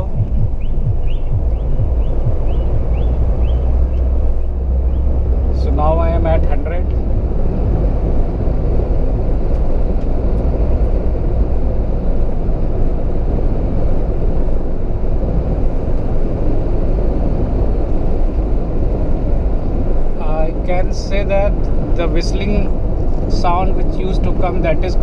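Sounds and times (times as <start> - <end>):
car cabin road and engine noise: 0.0 - 25.0.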